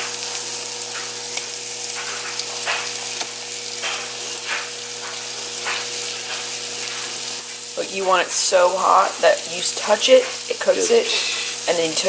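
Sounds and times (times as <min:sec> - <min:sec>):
fish searing in butter: 0:00.0 - 0:12.0.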